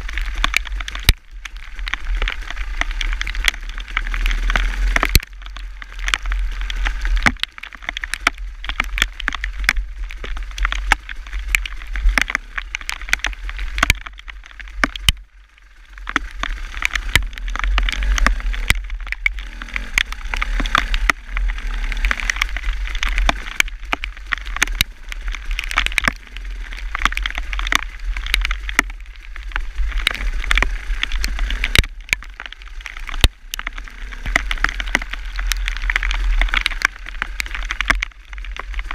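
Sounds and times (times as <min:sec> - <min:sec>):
rain ticking near microphone: 0:00.0 - 0:38.9.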